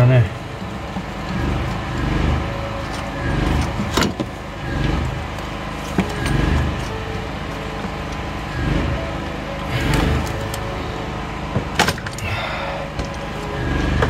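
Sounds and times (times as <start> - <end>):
generator running: 0.0 - 14.0.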